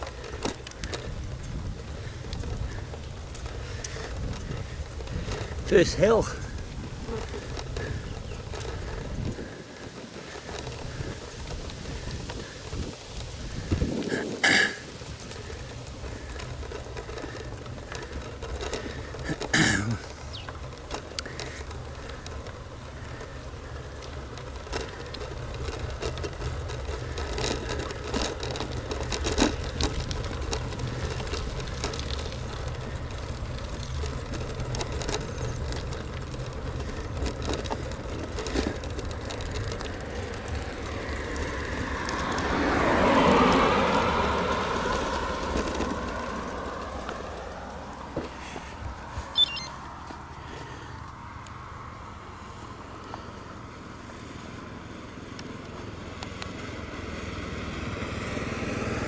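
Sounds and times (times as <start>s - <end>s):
wind buffeting microphone: 0.0s - 48.2s
bicycle tyre noise on road: 0.0s - 59.0s
bike rattling: 0.0s - 59.0s.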